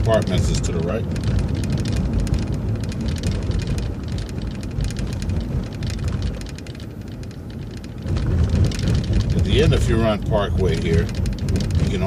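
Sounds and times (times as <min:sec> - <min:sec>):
bus engine rumble: 0:00.0 - 0:12.0
road noise crackle and rattles: 0:00.0 - 0:12.0.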